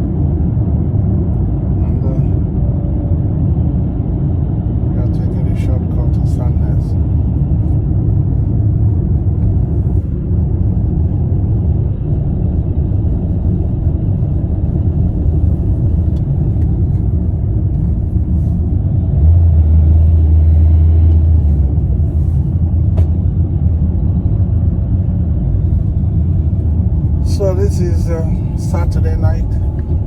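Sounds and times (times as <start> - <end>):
car road and engine rumble: 0.0 - 30.0
deeper drone: 0.0 - 30.0.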